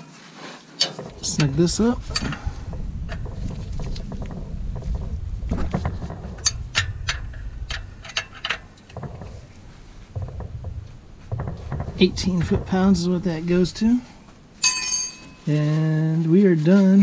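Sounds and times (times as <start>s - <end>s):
low rumble: 1.0s - 15.6s.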